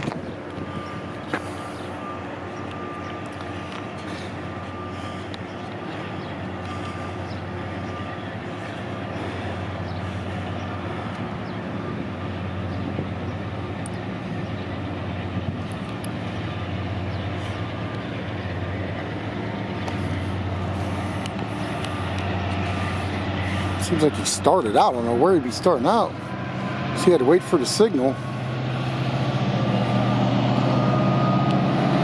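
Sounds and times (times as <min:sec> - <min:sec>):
locomotive engine hum: 0:00.0 - 0:32.0.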